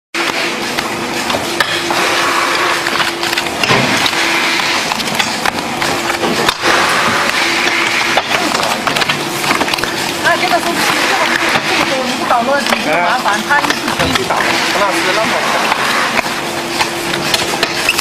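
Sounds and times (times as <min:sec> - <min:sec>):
factory hum: 0:00.2 - 0:18.0.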